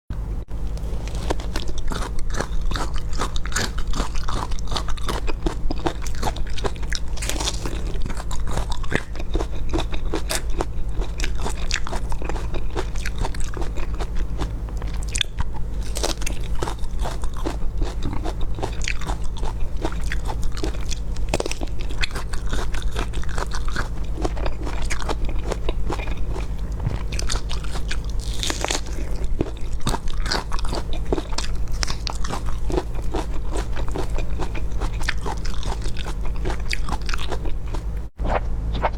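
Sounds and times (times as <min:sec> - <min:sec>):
crunchy food chewing: 0:00.7 - 0:38.9.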